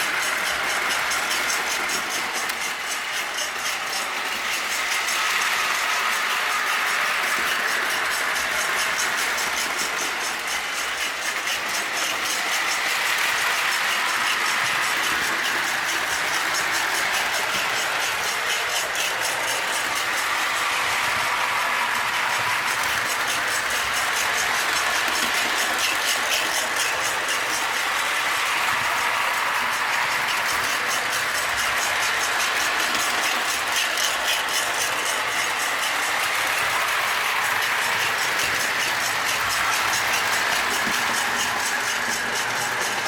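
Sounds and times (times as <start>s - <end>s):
toy train whirring: 0.0s - 43.0s
wheels clicking on track: 0.0s - 43.0s.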